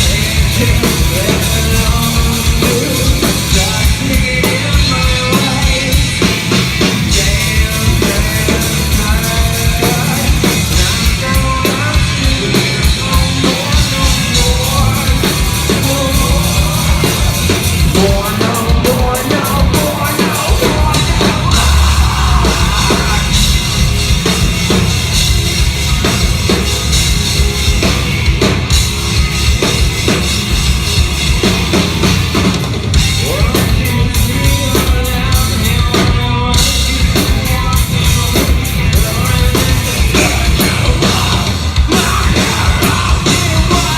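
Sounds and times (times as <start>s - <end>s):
bass guitar: 0.0s - 43.9s
distorted electric guitars: 0.0s - 43.9s
pounding drum kit: 0.0s - 43.9s.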